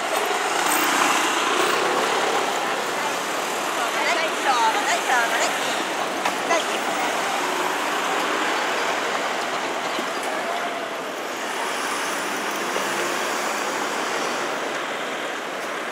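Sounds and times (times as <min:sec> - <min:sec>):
road traffic rushing: 0:00.0 - 0:15.9.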